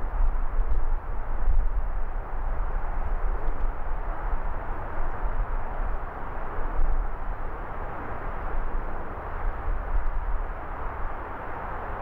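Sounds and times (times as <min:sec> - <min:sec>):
distant city traffic hiss: 0:00.0 - 0:12.0
wind buffeting microphone: 0:00.0 - 0:12.0.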